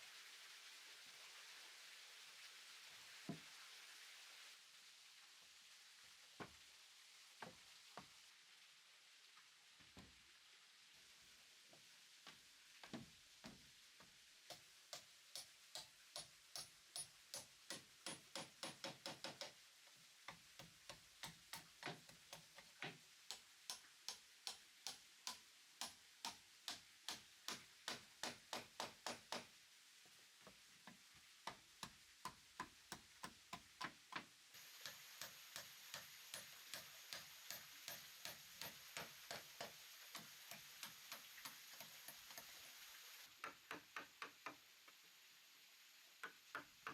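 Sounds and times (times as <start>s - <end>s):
faint steady hiss: 0.0s - 46.9s.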